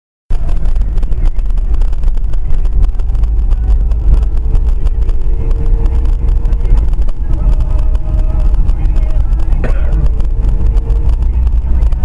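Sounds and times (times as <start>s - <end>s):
car engine rumble and road noise: 0.3s - 12.0s
faint steady hum: 0.3s - 12.0s.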